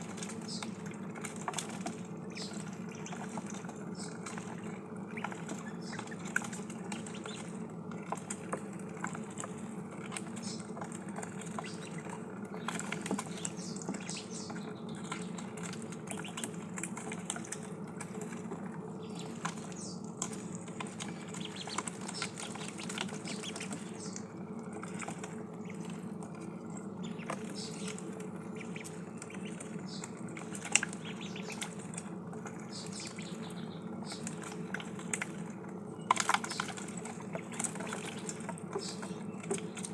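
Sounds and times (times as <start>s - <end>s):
ducklings dabbling in water: 0.0s - 39.9s
steady low hum: 0.0s - 39.9s.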